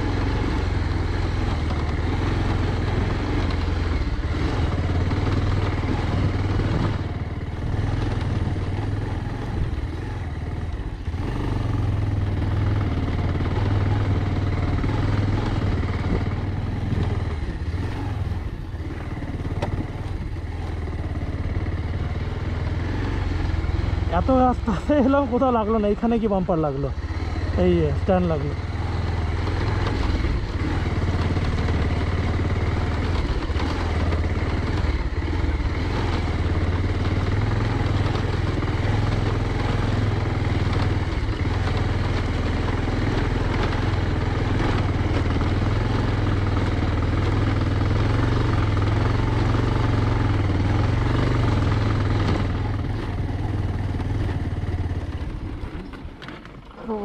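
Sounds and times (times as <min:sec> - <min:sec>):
knocks and rattles on cobblestones: 0:00.0 - 0:57.0
motorcycle engine running: 0:00.0 - 0:57.0.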